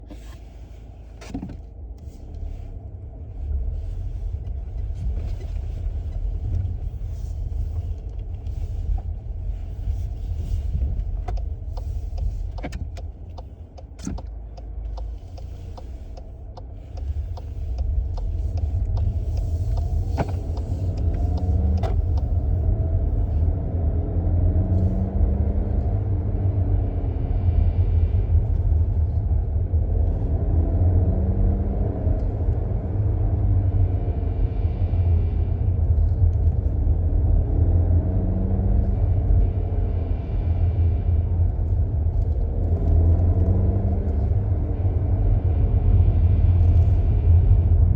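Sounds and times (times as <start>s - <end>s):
car cabin road rumble: 0.0s - 47.9s.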